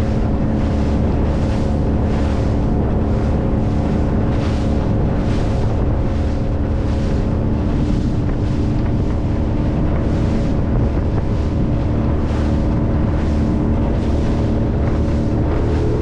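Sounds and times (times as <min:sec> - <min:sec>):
speedboat motor running: 0:00.0 - 0:16.0
water rushing past hull: 0:00.0 - 0:16.0
wind buffeting microphone: 0:00.0 - 0:16.0.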